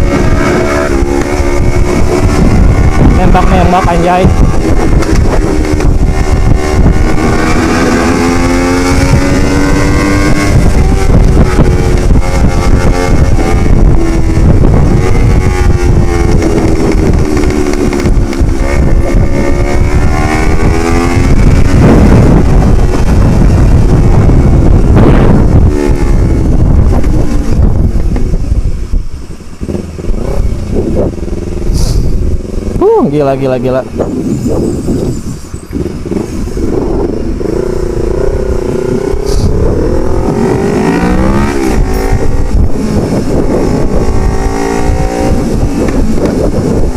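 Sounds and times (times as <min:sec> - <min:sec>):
motorcycle engine while riding: 0:00.0 - 0:46.9
noisy rush: 0:00.0 - 0:46.9
wind buffeting microphone: 0:00.0 - 0:46.9.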